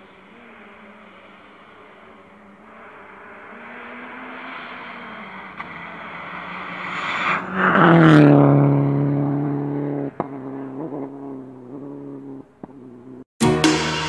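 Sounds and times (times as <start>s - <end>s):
rally car engine passing by: 0.0s - 13.2s.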